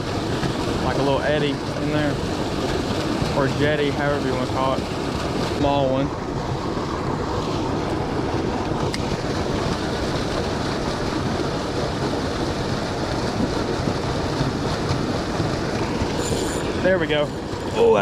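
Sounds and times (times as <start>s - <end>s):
water rushing over spillway: 0.0s - 18.0s.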